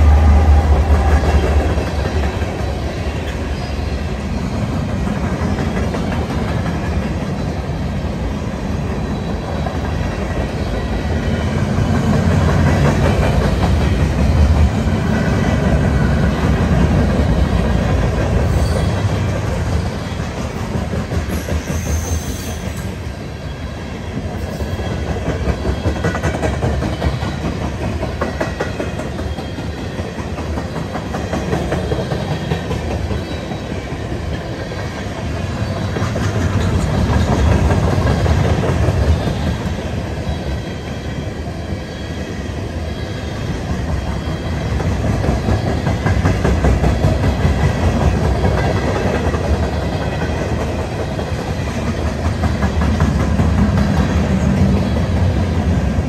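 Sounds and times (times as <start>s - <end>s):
train wheels clicking over rail joints: 0.0s - 23.2s, 24.1s - 40.8s, 43.3s - 56.0s.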